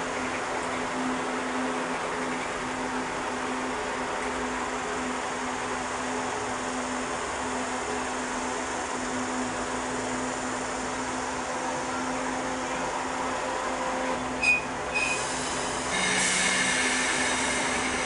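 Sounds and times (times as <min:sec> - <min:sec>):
electric train hum: 0:00.0 - 0:18.0.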